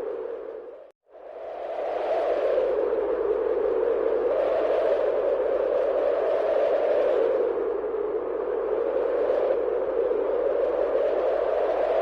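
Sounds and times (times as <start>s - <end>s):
steady hollow wind noise: 0.0s - 12.0s.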